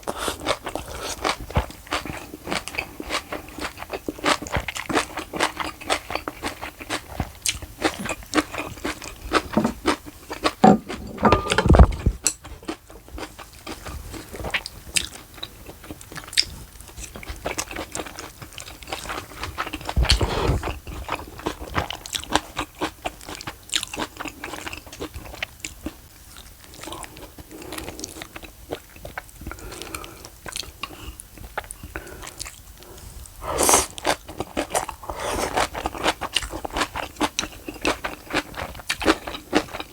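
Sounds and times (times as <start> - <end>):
chewing and crunching food: 0.0 - 10.0, 12.7 - 33.1, 33.8 - 39.9.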